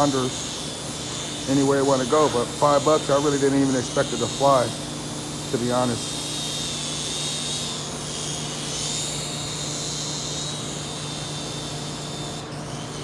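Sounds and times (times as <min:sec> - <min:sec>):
toy helicopter motors whining: 0:00.0 - 0:13.0.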